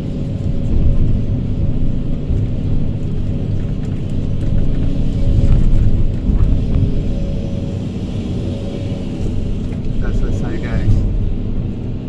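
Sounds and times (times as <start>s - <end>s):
excavator diesel engine under load: 0.0s - 12.0s
steady high hum: 0.0s - 12.0s.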